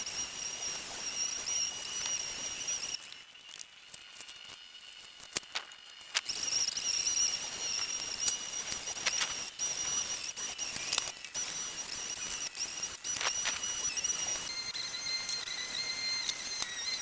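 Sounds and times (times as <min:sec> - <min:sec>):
insects trilling: 0:00.0 - 0:03.3, 0:05.5 - 0:17.0.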